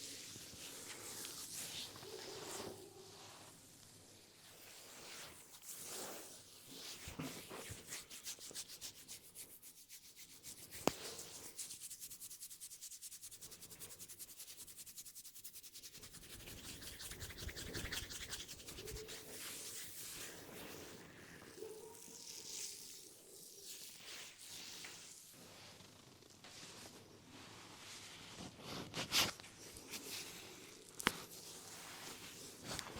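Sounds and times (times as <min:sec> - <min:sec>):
hands rubbing hair and scalp: 0:00.0 - 0:25.2, 0:26.4 - 0:32.9.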